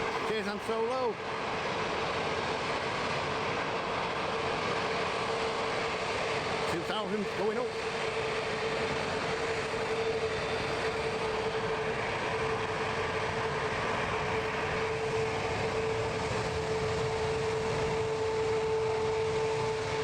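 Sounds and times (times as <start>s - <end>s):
jet aircraft engine whine: 0.0s - 20.0s.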